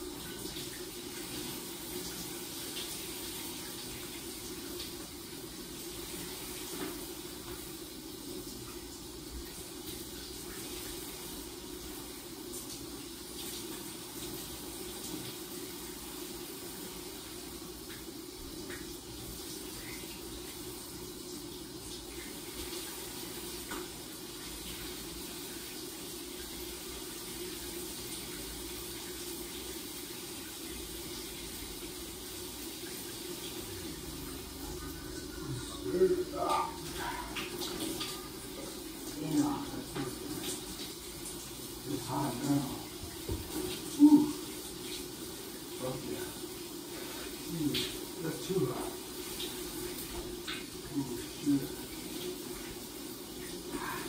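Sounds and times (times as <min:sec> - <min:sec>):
shower running: 0:00.0 - 0:54.0.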